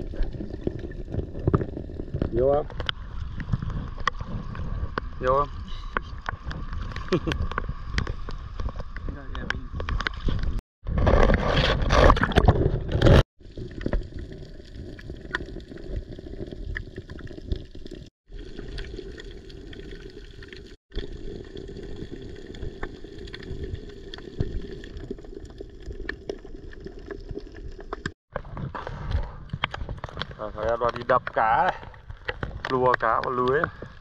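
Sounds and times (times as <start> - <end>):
sea water sloshing and gurgling: 0.0 - 30.6.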